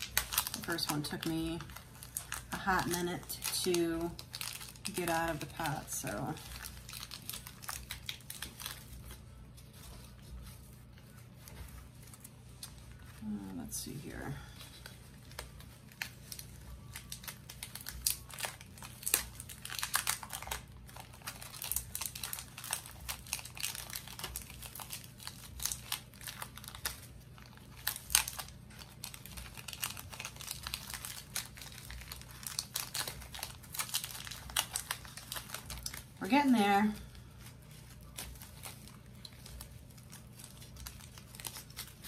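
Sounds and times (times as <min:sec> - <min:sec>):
plastic and paper crinkling: 0:00.0 - 0:42.0.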